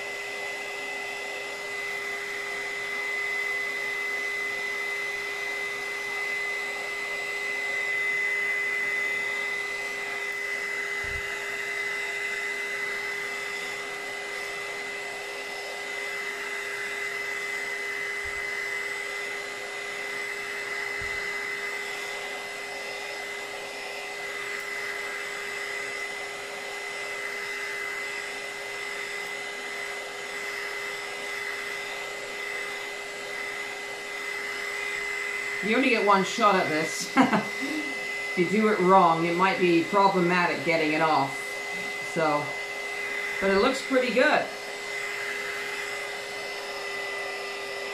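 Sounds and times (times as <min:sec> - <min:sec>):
heat gun fan whining: 0:00.0 - 0:47.9.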